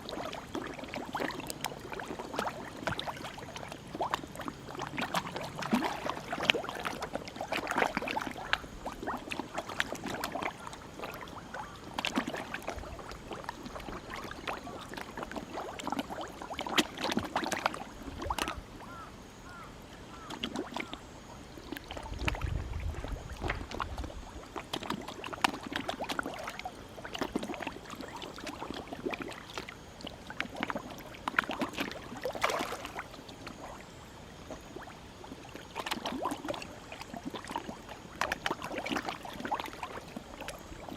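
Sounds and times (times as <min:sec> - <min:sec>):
fish splashing and slurping: 0:00.0 - 0:40.9.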